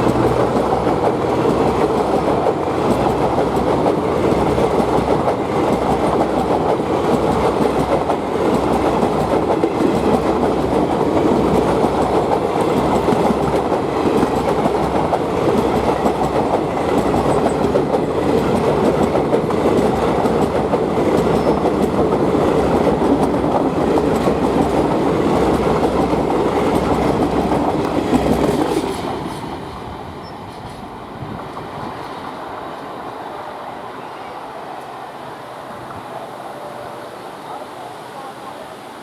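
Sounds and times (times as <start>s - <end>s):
train wheels clattering over joints: 0.0s - 32.4s
train rumble: 0.0s - 38.9s.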